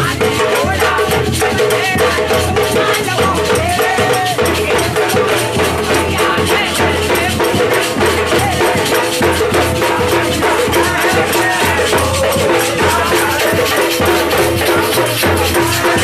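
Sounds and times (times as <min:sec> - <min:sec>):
drum beating steady rhythm: 0:00.0 - 0:16.0
rattling percussion: 0:00.0 - 0:16.0.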